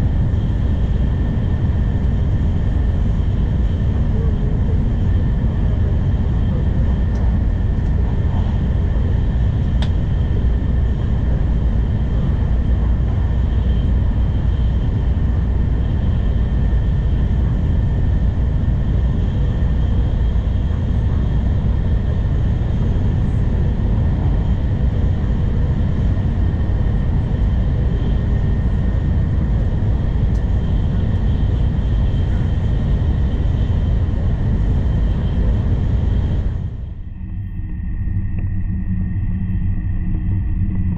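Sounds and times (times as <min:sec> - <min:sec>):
faint steady whine: 0:00.0 - 0:40.9
train low rumble: 0:00.0 - 0:40.9.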